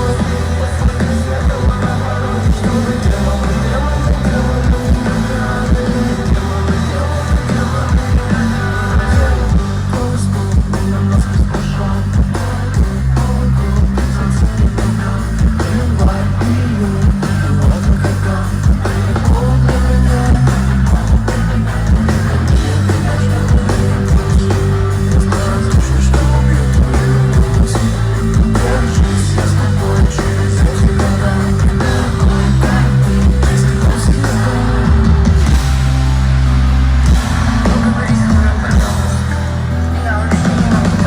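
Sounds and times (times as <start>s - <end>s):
person singing: 0.0s - 35.6s
rock band playing live: 0.0s - 41.0s.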